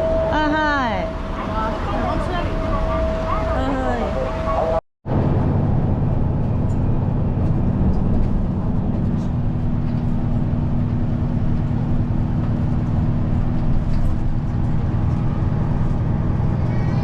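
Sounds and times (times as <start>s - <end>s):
bus engine droning inside cabin: 0.0s - 17.0s.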